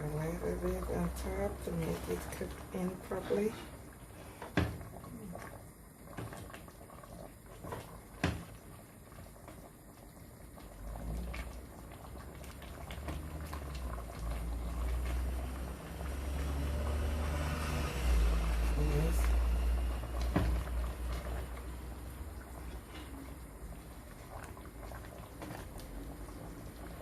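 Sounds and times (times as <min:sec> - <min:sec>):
pot bubbling on a stove: 0:00.0 - 0:27.0.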